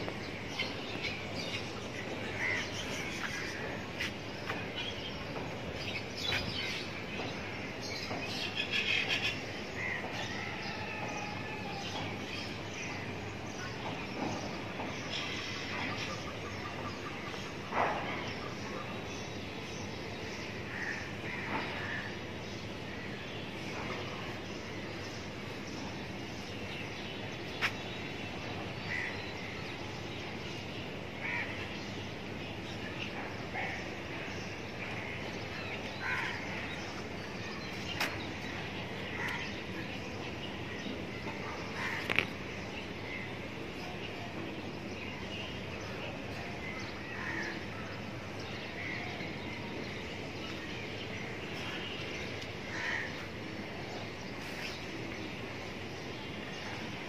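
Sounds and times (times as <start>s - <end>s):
town background noise: 0.0s - 57.0s.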